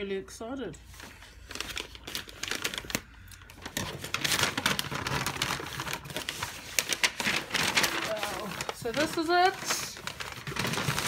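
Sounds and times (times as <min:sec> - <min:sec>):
paper crinkling and rustling: 0:00.9 - 0:11.0.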